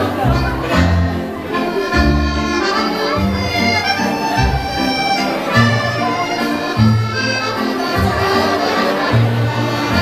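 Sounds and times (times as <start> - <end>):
accordion dance music: 0.0 - 10.0.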